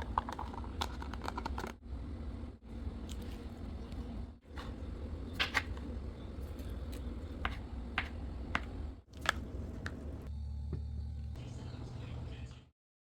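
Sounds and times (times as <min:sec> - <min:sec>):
low steady hum: 0:00.0 - 0:12.7.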